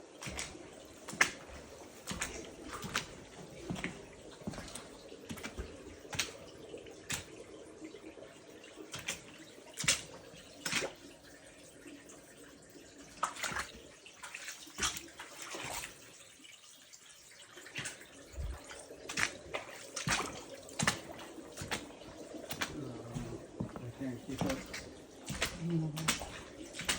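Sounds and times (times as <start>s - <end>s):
sharp water splashes: 0.0s - 7.6s, 8.8s - 11.3s, 13.1s - 16.2s, 17.5s - 26.9s
low wash of running water: 0.0s - 26.9s
water dripping: 0.0s - 26.9s.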